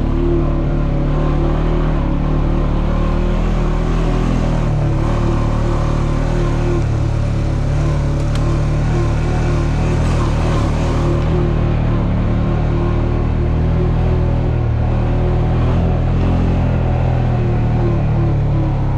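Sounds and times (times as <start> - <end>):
quad bike engine running: 0.0 - 18.9
rumble and rattle over rough ground: 0.0 - 18.9.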